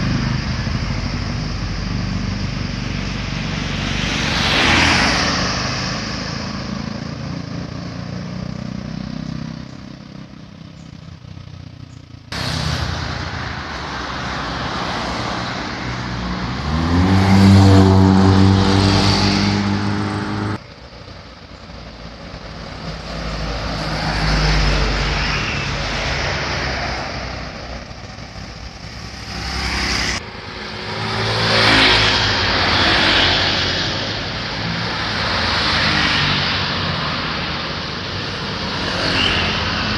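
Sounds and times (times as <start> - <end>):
engine accelerating away: 0.0 - 21.0, 21.6 - 39.9
vehicles passing and pulling away: 0.0 - 39.9.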